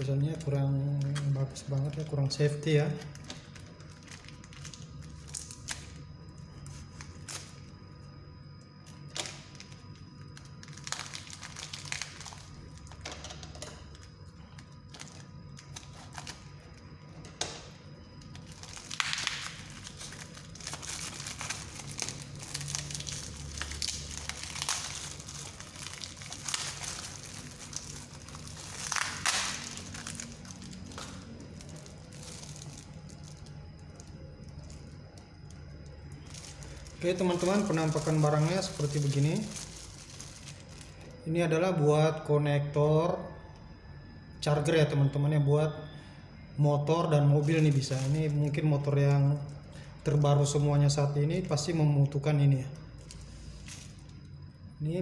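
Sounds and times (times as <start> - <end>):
packaging crinkling: 0.0 - 8.1, 8.8 - 41.2, 47.4 - 50.6, 52.8 - 54.3.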